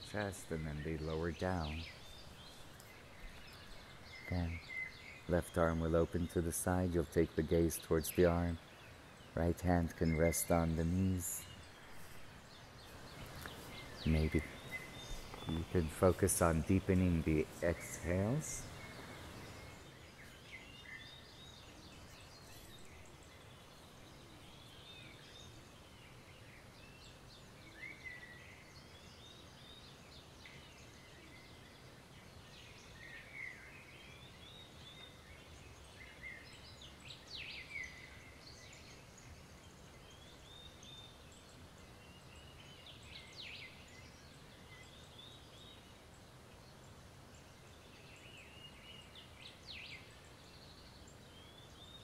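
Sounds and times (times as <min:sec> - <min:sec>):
faint bird chirps and trills: 0:00.0 - 0:52.0
steady background hiss: 0:00.0 - 0:52.0.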